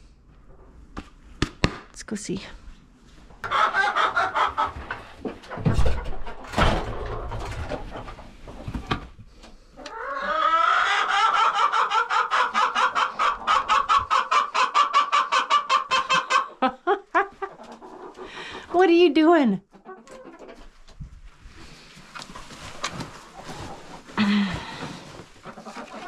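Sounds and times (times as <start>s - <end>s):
chickens clucking: 3.4s - 18.8s, 19.7s - 26.0s.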